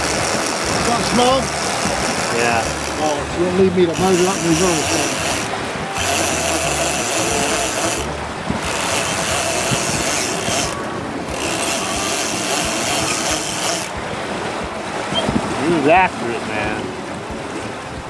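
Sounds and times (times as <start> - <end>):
boat engine rumble: 0.0 - 18.0
hiss of wind and water: 0.0 - 18.0.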